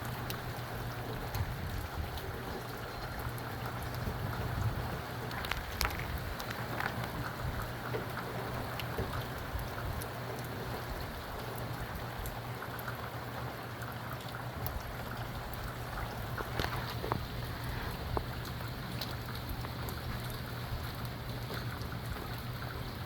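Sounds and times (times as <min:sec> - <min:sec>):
raindrops ticking on surfaces: 0:00.0 - 0:23.0
steady rain falling: 0:00.0 - 0:23.0.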